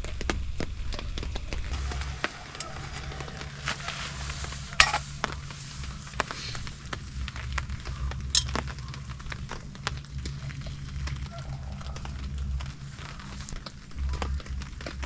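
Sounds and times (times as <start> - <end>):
raindrops tapping on a tarp: 0.0 - 15.0
steady low rumble: 0.0 - 15.0.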